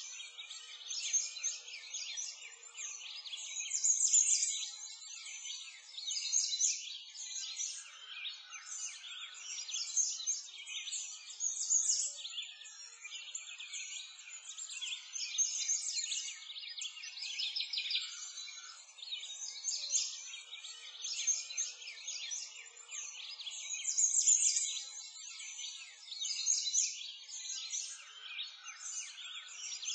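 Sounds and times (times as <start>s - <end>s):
chorus of small birds chirping: 0.0s - 29.9s.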